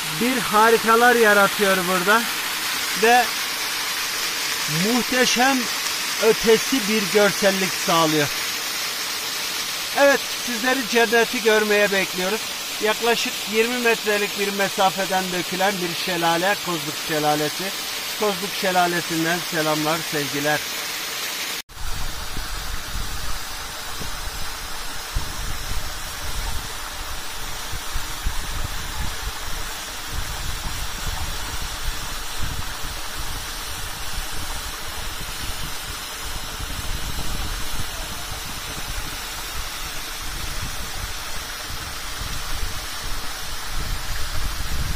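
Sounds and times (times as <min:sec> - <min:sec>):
waterfall pouring onto rocks: 0:00.0 - 0:44.9.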